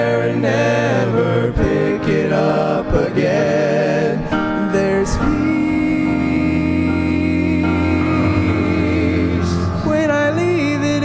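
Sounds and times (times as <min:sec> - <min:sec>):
gospel singing with accompaniment: 0:00.0 - 0:11.0.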